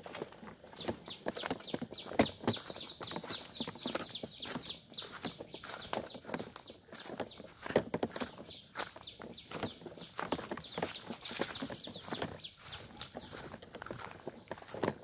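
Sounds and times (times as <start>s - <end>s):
footsteps through undergrowth: 0.0s - 15.0s
bird chirping rapidly: 0.7s - 15.0s.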